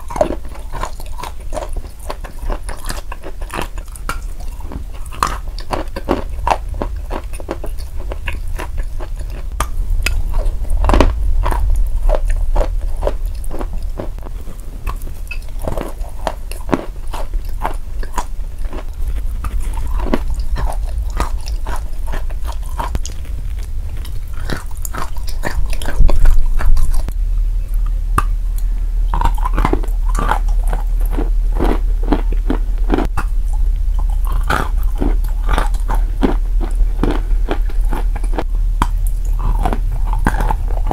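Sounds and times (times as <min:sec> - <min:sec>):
chewing crunchy chalk: 0:00.0 - 0:40.9
low hum: 0:00.0 - 0:40.9.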